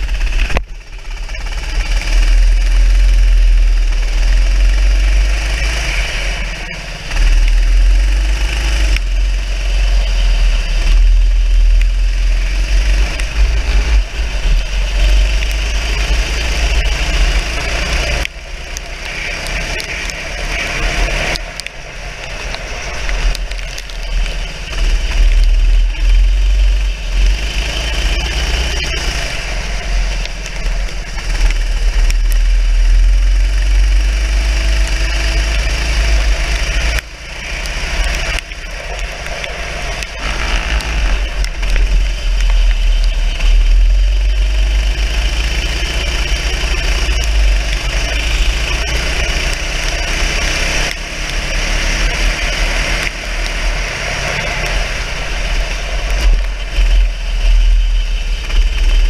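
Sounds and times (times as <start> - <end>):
racing kart engine: 0.0 - 59.0.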